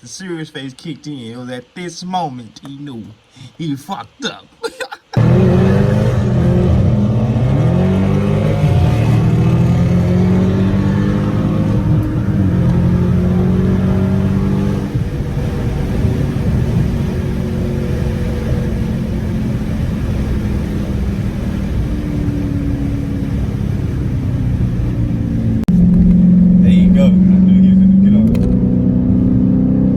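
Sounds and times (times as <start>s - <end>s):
car engine accelerating hard: 5.2s - 29.9s.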